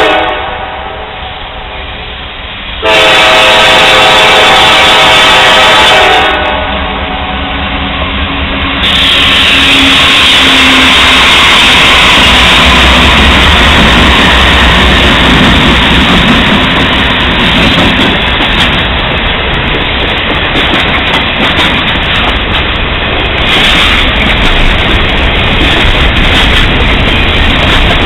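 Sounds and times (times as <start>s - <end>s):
freight train passing: 0.0s - 28.0s.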